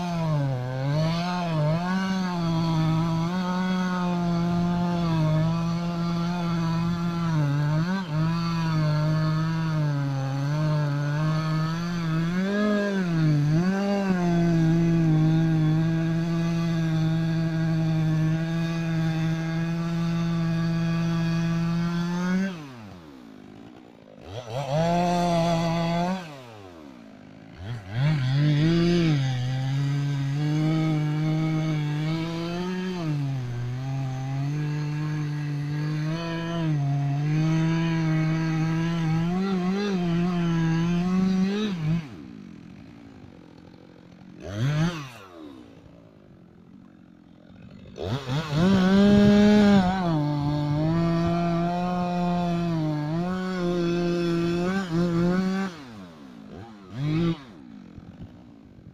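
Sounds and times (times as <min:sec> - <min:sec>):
chainsaw cutting wood: 0:00.0 - 0:58.9
chainsaw revving and idling: 0:00.0 - 0:58.9.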